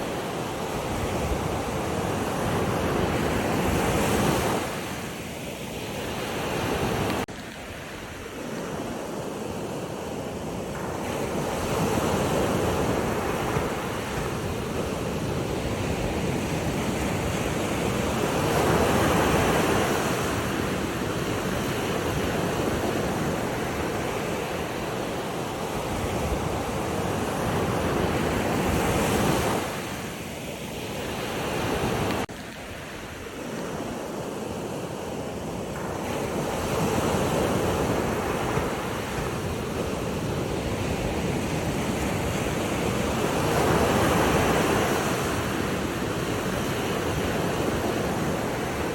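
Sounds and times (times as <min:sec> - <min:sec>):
ocean waves washing in and out: 0:00.0 - 0:48.9.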